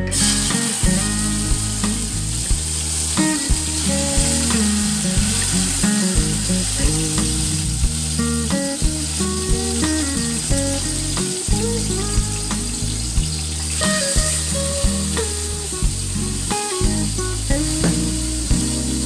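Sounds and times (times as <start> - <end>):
background music: 0.0 - 19.0
pork chops sizzling in pan: 0.0 - 19.0.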